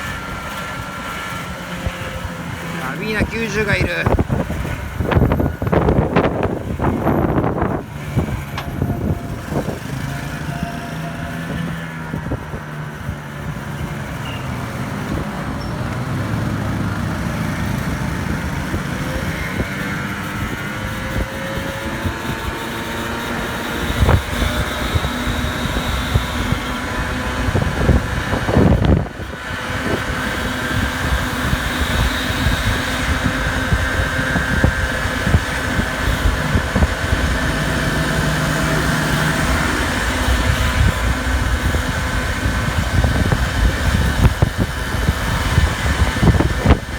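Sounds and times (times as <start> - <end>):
scooter engine running: 0.0 - 46.9
wind buffeting microphone: 0.0 - 46.9.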